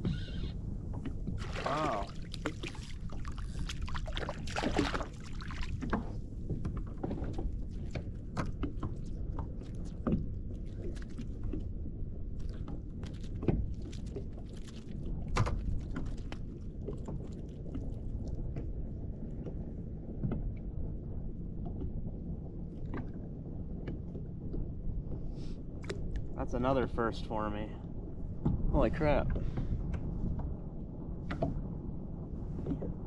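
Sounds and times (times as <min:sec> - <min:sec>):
wind and water rumble: 0:00.0 - 0:33.0.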